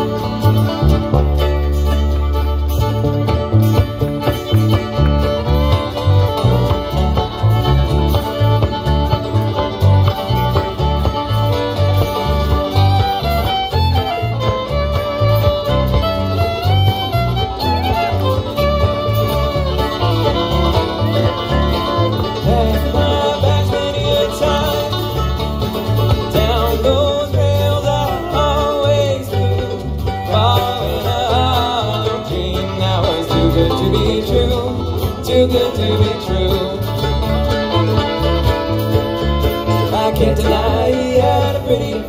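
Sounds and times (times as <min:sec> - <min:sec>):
bluegrass band playing: 0:00.0 - 0:42.0
fiddle melody: 0:00.0 - 0:42.0
pulsing bass line: 0:00.0 - 0:42.0.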